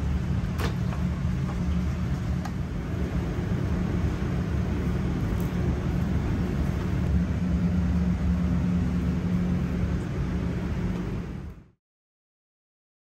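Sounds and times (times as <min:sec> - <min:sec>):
even whooshing noise: 0:00.0 - 0:11.8
kitchen machinery humming: 0:00.0 - 0:11.8.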